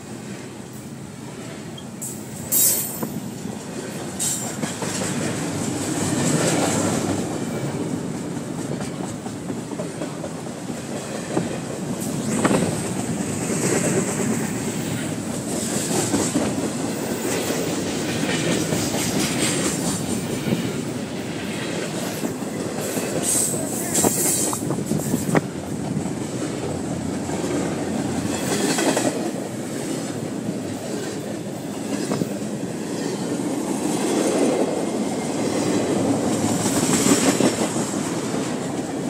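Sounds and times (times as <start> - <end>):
train wheels rumbling on rail: 0.0 - 39.0
wheels clicking over rail joints: 2.0 - 39.0.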